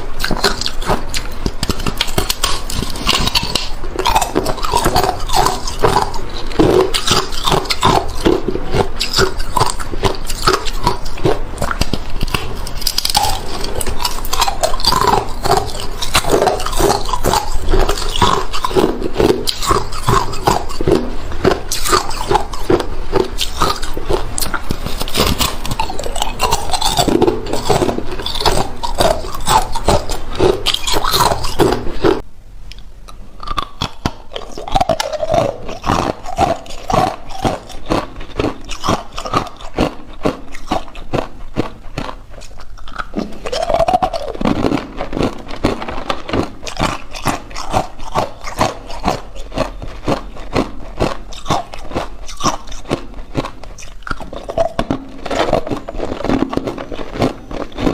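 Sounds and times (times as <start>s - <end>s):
ice cubes being crunched: 0.2s - 32.2s, 33.5s - 57.9s.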